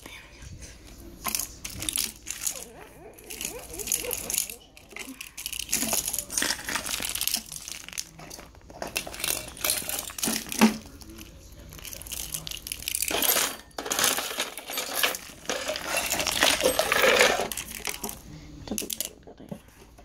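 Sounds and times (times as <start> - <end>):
rustling: 0.5 - 20.0
plastic toys clattering on tile: 1.2 - 20.0.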